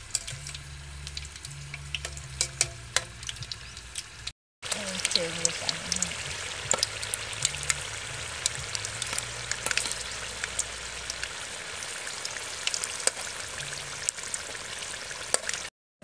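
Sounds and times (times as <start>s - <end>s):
deep-frying in hot oil: 0.0s - 15.7s.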